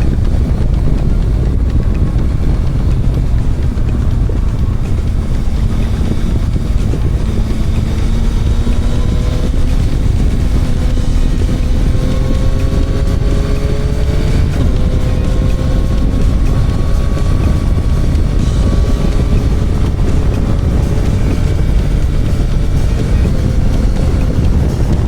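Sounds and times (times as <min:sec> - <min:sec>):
motorcycle engine running: 0:00.0 - 0:25.0
wind rumbling on microphone: 0:00.0 - 0:25.0.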